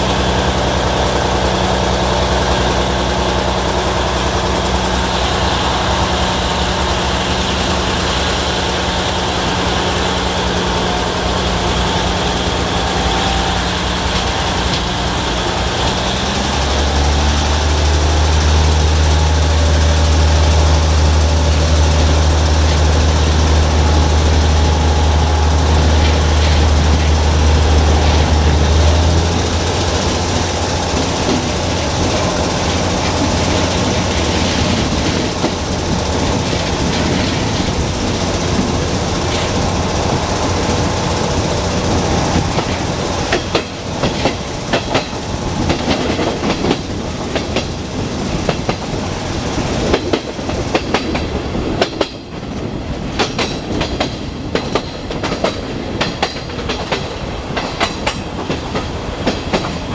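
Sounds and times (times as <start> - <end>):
diesel engine drone: 0.0 - 51.8
wheels rumbling on track: 0.0 - 59.9.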